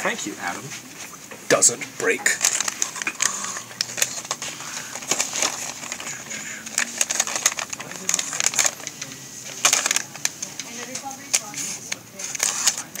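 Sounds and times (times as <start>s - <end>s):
plastic packaging crinkling: 1.5s - 13.0s.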